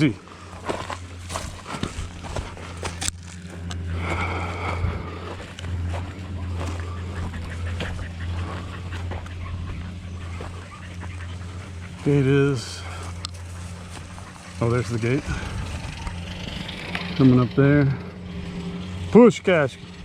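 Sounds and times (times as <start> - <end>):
cows bawling: 0.0 - 20.0
low hum: 0.0 - 20.0.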